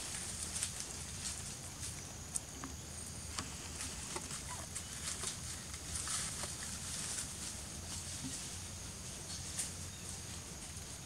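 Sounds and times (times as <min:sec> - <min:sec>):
high insect hiss: 0:00.0 - 0:11.0.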